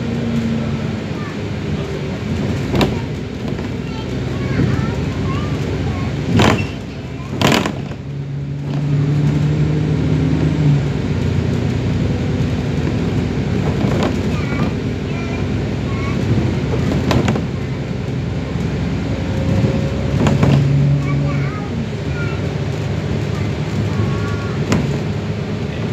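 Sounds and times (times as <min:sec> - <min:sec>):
bus engine running: 0:00.0 - 0:25.9.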